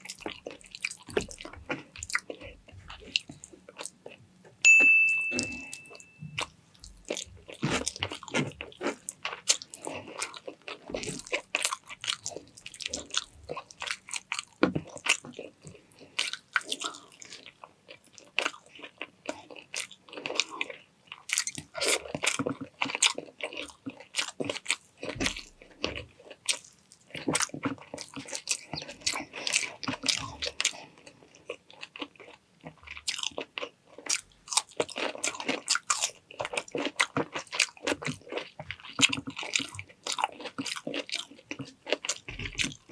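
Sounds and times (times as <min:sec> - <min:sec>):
person chewing and crunching food: 0:00.0 - 0:04.6, 0:05.3 - 0:42.9.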